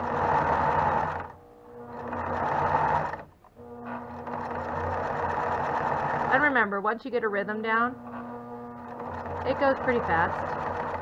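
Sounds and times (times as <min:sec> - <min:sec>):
sewing machine stitching: 0:00.0 - 0:06.5, 0:08.0 - 0:11.0.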